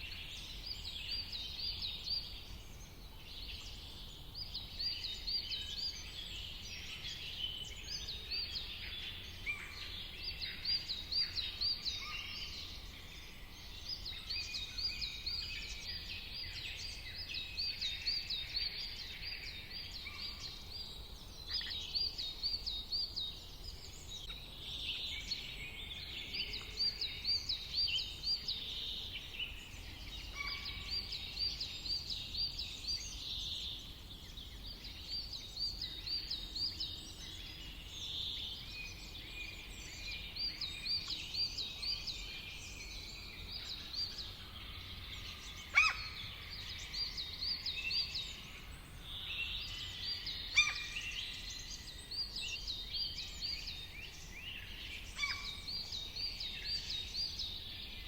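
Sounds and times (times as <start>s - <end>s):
birds chirping and trilling: 4.8s - 58.0s.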